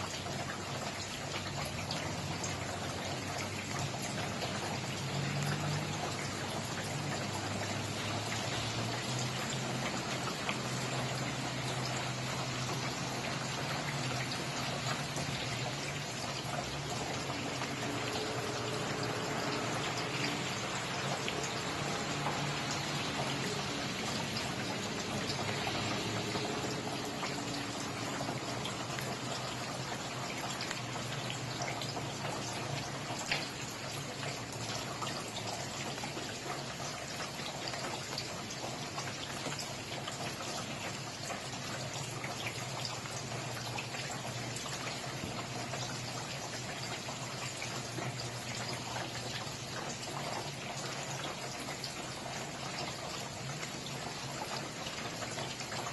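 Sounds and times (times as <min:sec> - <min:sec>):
steady rain with drop ticks: 0:00.0 - 0:55.9.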